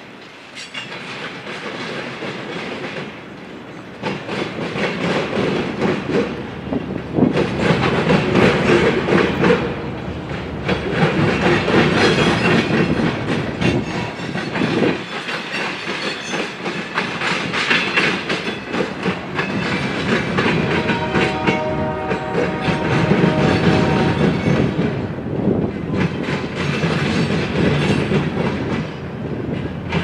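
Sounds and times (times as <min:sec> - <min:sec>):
train wheels clattering: 0:00.0 - 0:30.0.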